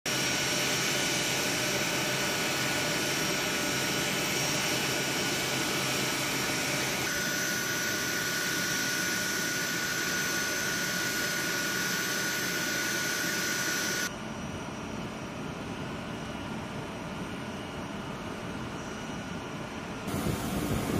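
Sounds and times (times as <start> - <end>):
high-pitched engine whine: 0.1 - 20.9
jet engines idling: 0.1 - 20.9.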